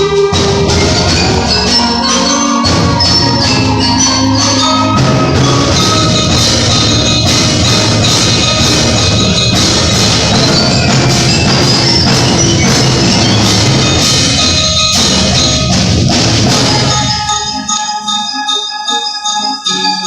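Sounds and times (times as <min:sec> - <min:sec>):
concert band playing: 0:00.0 - 0:20.0
percussion strokes: 0:00.0 - 0:20.0.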